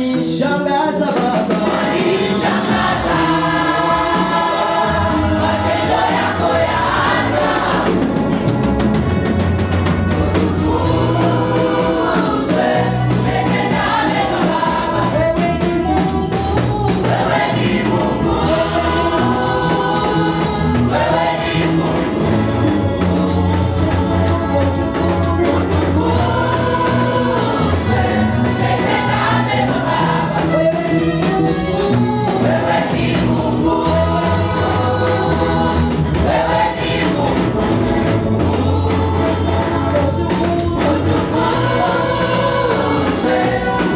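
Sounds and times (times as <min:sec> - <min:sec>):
drums: 0:00.0 - 0:43.9
choir singing gospel song: 0:00.1 - 0:43.9
bass line: 0:01.7 - 0:43.9.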